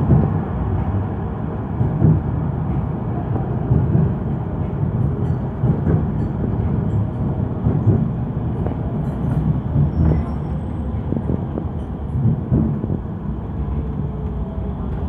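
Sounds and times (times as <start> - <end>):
tram rumbling on track: 0.0 - 15.0.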